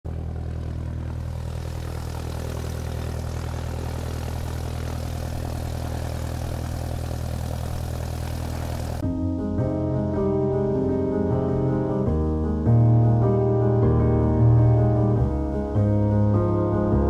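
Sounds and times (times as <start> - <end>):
propeller aircraft engine droning: 0.1 - 17.0.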